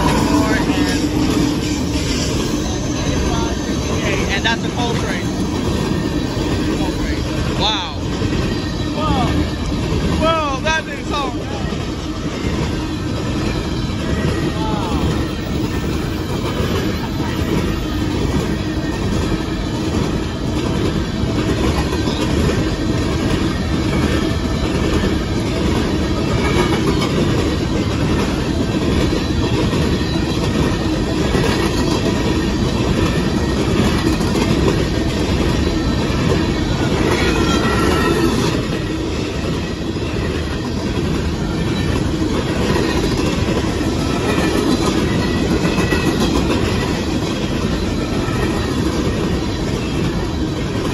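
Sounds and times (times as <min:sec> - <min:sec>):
freight train wheels rumbling on rails: 0:00.0 - 0:50.9
train wheel squeal: 0:00.0 - 0:50.9.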